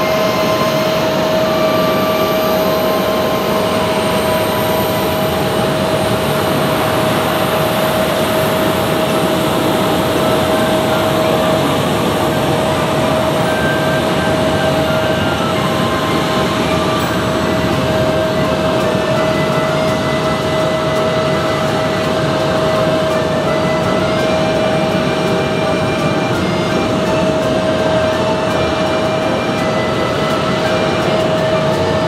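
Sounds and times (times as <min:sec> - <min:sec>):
jet engines whining: 0:00.0 - 0:32.0.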